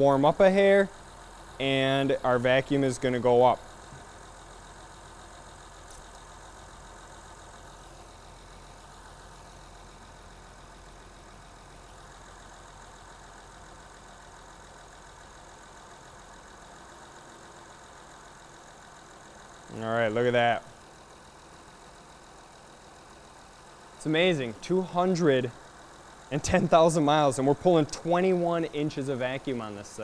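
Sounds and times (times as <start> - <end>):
car engine idling faintly: 0.0 - 30.0.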